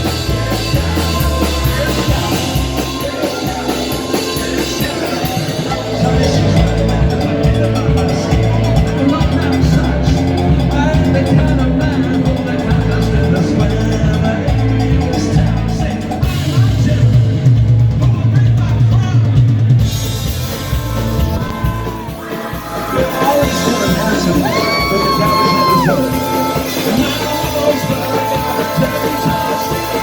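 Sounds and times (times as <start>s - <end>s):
bass guitar: 0.0s - 30.0s
drum kit: 0.0s - 30.0s
live rock band playing: 0.0s - 30.0s.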